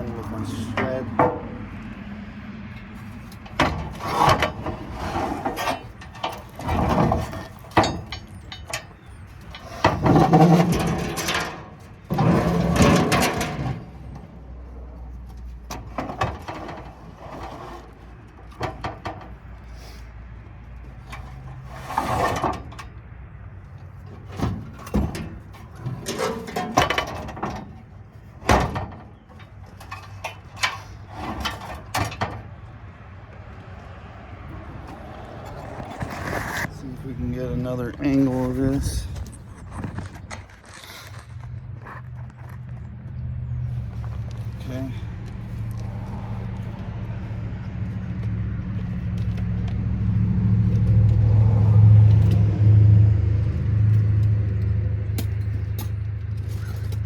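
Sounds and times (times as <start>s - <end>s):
scrap metal knocking and clanking: 0.0s - 52.8s.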